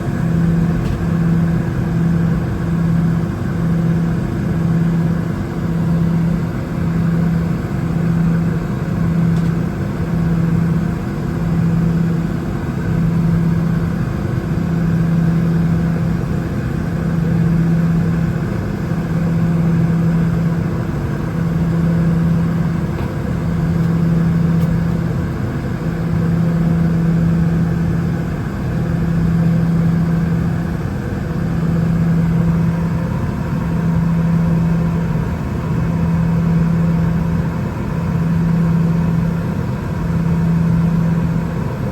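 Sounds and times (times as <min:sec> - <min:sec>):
jet engine drone: 0:00.0 - 0:41.9.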